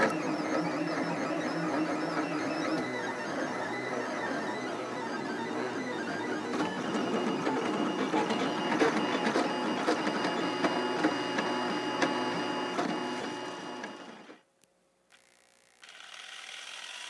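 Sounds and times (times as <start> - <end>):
stepper motors whining: 0.0 - 14.3.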